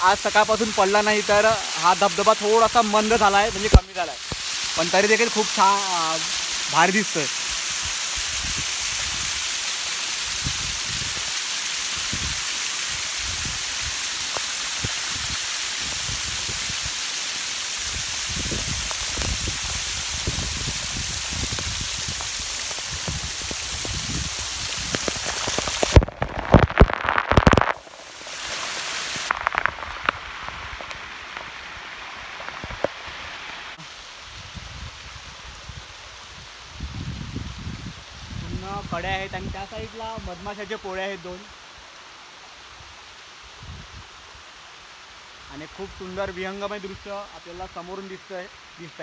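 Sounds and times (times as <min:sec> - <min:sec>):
waterfall splashing over rock: 0:00.0 - 0:49.0.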